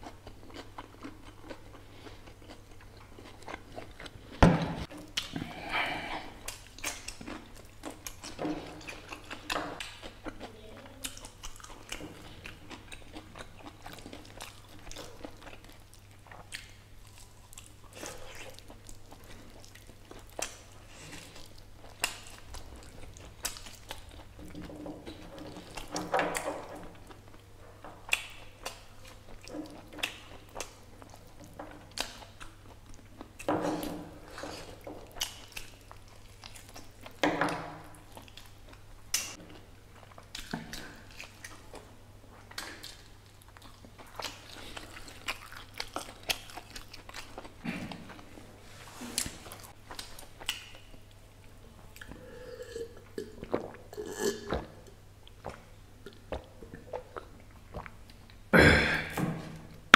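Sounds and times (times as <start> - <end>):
chewing and mouth smacks: 0.0 - 5.6, 6.4 - 48.3, 49.2 - 58.4.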